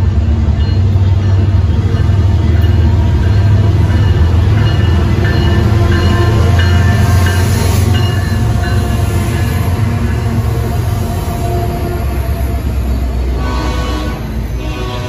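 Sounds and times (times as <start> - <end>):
locomotive engines droning: 0.0 - 15.0.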